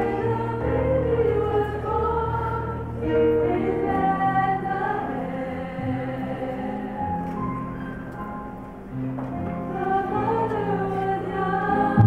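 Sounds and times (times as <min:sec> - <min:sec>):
women singing in harmony: 0:00.0 - 0:07.3, 0:09.6 - 0:12.0.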